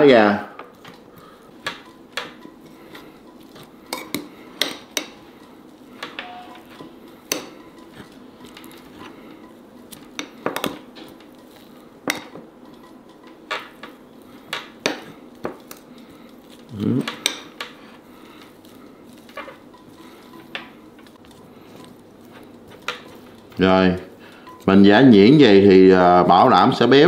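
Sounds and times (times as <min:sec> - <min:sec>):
soft scraping and crunching: 0:00.7 - 0:25.4.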